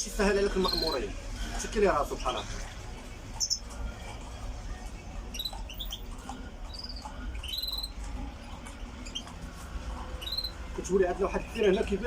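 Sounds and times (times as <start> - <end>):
small birds chirping: 0.3 - 12.0.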